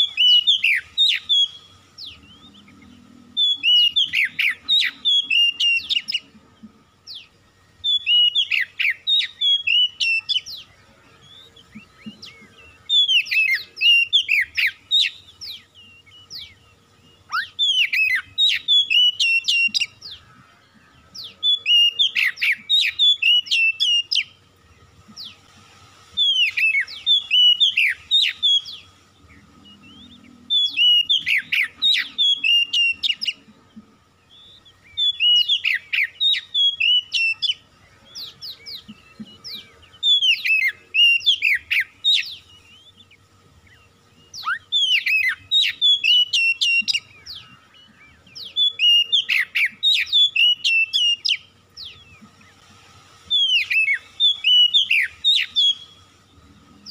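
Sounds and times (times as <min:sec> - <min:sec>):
bird singing whistled phrases: 0:00.0 - 0:06.3, 0:07.0 - 0:20.2, 0:21.1 - 0:24.4, 0:26.2 - 0:33.4, 0:34.2 - 0:52.2, 0:53.3 - 0:56.9.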